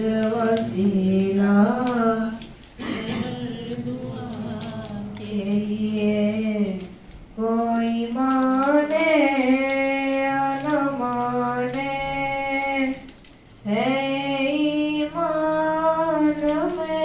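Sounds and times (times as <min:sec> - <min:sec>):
boy chanting into microphone: 0:00.0 - 0:13.0, 0:13.7 - 0:17.0.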